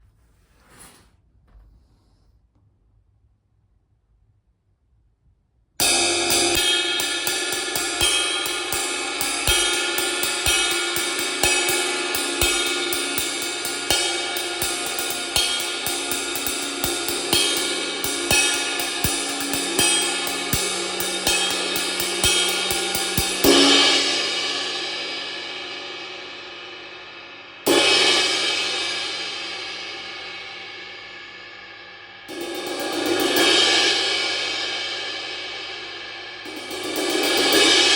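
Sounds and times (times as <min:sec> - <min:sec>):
cymbal struck hard ringing: 0:05.8 - 0:27.0, 0:27.7 - 0:37.9
ride cymbal played with a stick: 0:05.8 - 0:37.9.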